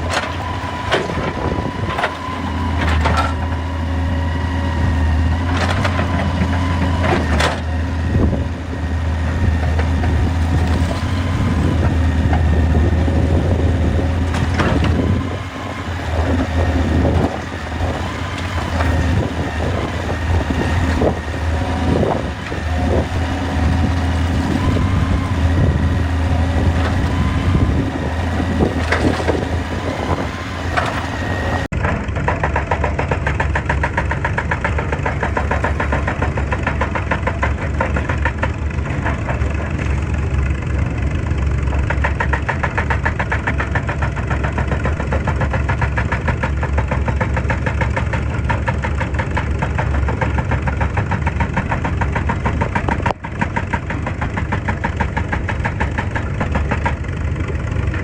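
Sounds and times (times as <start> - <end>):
excavator diesel engine chugging: 0.0 - 58.0.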